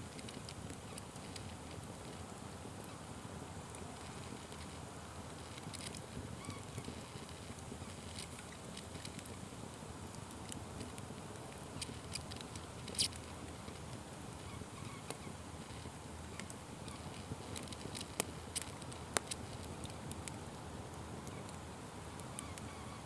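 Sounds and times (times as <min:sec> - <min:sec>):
fire burning with crackles: 0:00.0 - 0:23.0.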